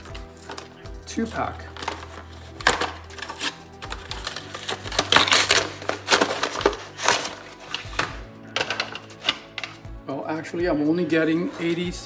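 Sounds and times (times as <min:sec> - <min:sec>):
plastic packaging rustling: 0:00.0 - 0:09.8.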